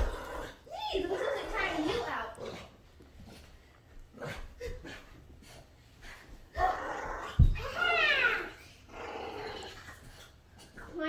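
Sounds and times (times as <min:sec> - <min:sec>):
small dog play noises: 0:00.0 - 0:11.0.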